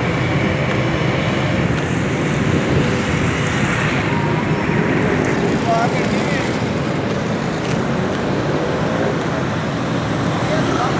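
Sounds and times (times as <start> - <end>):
road traffic noise: 0.0 - 10.9.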